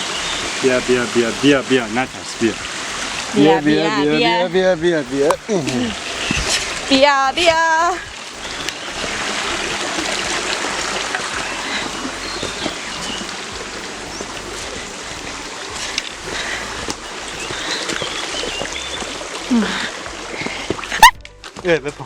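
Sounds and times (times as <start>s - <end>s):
water rushing down a waterfall: 0.0s - 21.1s.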